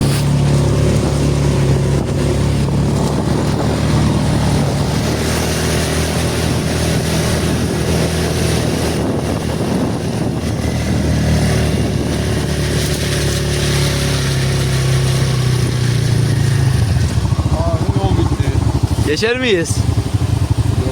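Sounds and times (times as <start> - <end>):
atv engine running: 0.0 - 20.9.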